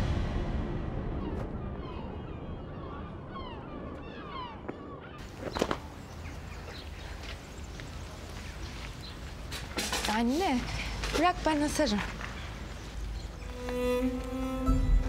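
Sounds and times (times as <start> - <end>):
seagulls calling: 1.2 - 14.6.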